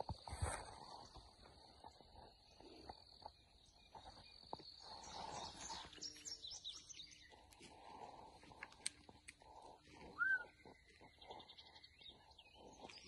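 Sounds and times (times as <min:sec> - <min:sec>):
insect hum: 0:00.0 - 0:13.0
songbird chirping: 0:00.1 - 0:13.0.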